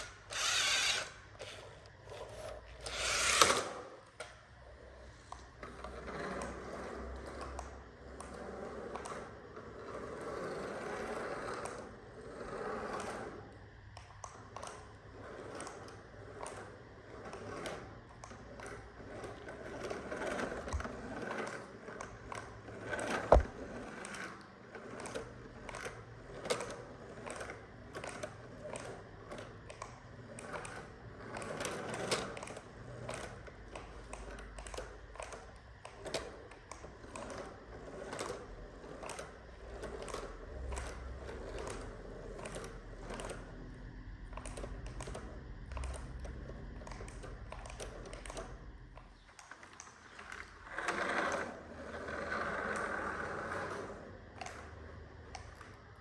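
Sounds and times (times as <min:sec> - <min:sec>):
toy electric motors whirring: 0:00.0 - 0:56.0
small plastic clicks and knocks: 0:05.2 - 0:09.6, 0:12.9 - 0:56.0.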